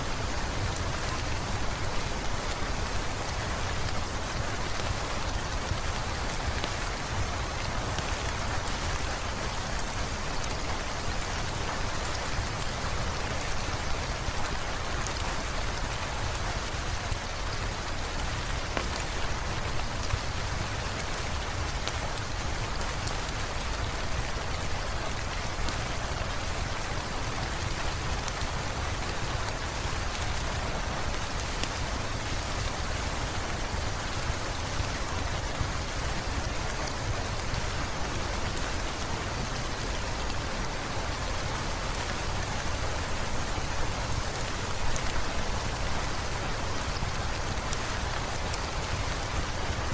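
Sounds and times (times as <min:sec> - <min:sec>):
rain on hard surfaces: 0:00.0 - 0:49.9.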